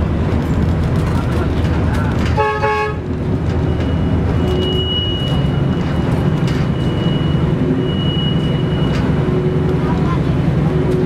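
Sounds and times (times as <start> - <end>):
train engine and wheels rumbling: 0.0 - 11.0.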